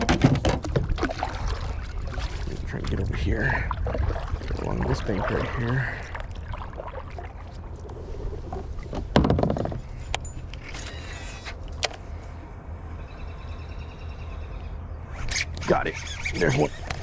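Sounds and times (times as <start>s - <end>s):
hull and water rumble: 0.0s - 17.0s.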